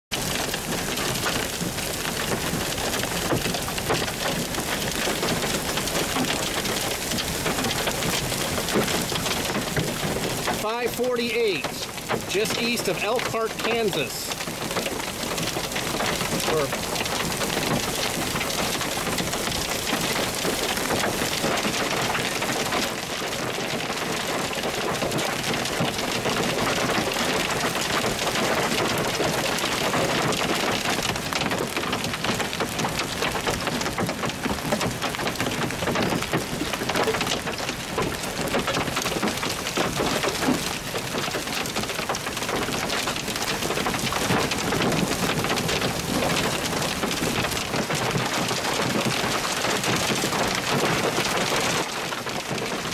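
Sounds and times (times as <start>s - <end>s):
hail pelting down: 0.1s - 52.9s.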